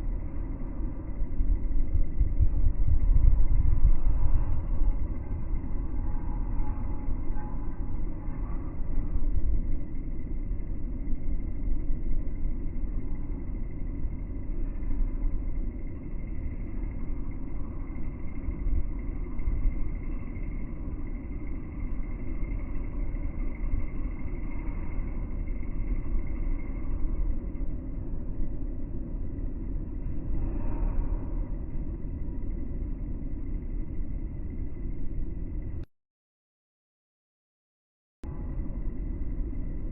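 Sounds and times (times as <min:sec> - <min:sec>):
train rumbling slowed down: 0:00.0 - 0:35.9, 0:38.2 - 0:39.9.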